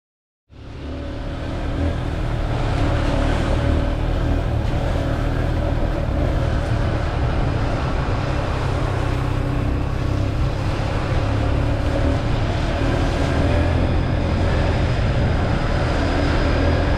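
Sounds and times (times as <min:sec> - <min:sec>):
dirt bike engine running: 0:00.5 - 0:16.9.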